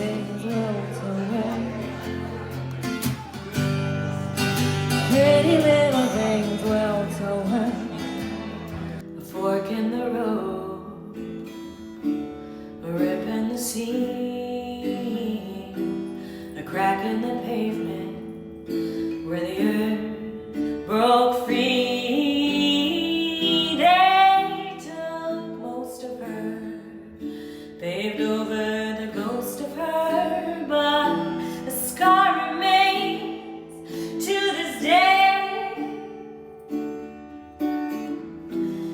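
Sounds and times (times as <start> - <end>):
woman singing: 0.0 - 2.3, 4.8 - 8.5, 9.1 - 11.8, 12.8 - 36.5
strummed acoustic guitar: 0.0 - 38.9.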